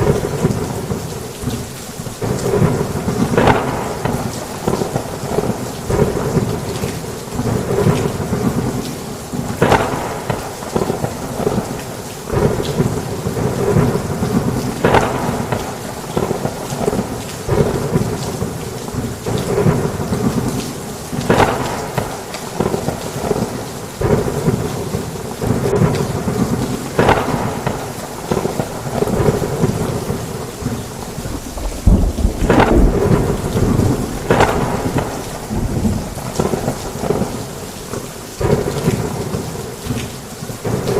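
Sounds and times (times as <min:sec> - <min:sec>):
thunder rumbling: 0:00.0 - 0:06.7, 0:09.4 - 0:39.8
heavy rain on a roof: 0:00.0 - 0:40.9.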